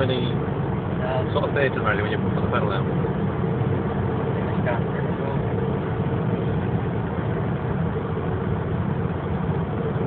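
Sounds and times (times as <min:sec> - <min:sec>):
car engine drone inside cabin: 0:00.0 - 0:10.0
road and wind noise: 0:00.0 - 0:10.0.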